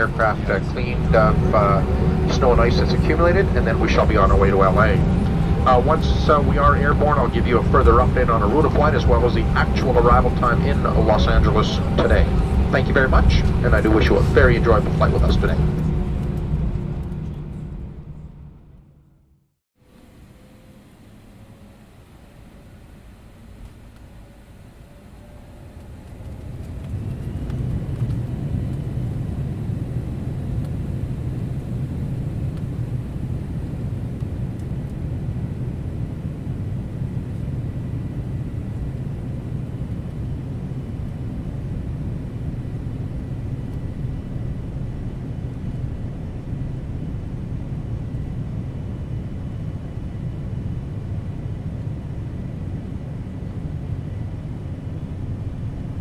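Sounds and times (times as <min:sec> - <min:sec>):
jet engines from inside cabin: 0:00.0 - 0:19.2, 0:19.8 - 0:56.0.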